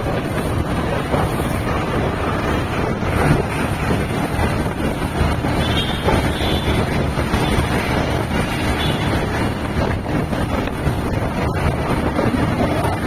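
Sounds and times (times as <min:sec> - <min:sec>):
engine and road noise: 0:00.0 - 0:13.0
wind rushing over microphone: 0:00.0 - 0:13.0.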